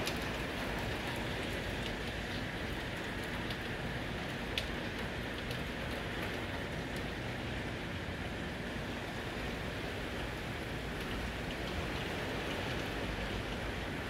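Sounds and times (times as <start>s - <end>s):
heavy rain falling: 0.0s - 14.0s
raindrops ticking close by: 0.0s - 14.0s.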